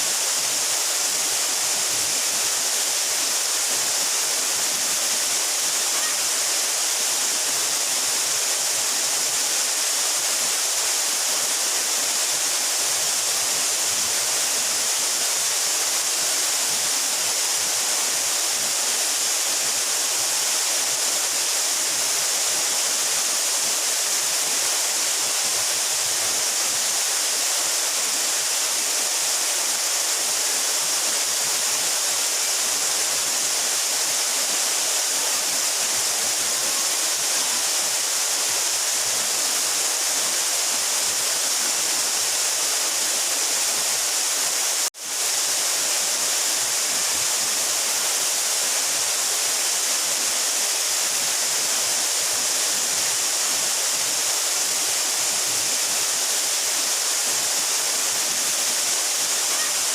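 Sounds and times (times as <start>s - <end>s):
waterfall crashing into pool: 0.0s - 59.9s.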